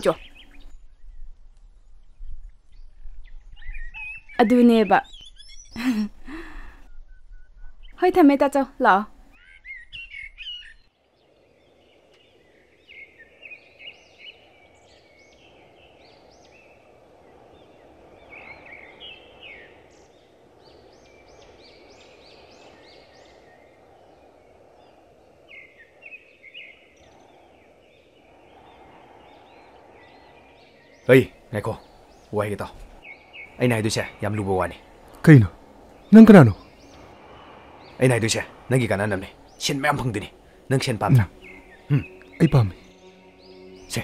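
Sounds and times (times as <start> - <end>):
birds chirping: 0.0 - 44.0
low outdoor hiss: 0.0 - 44.0.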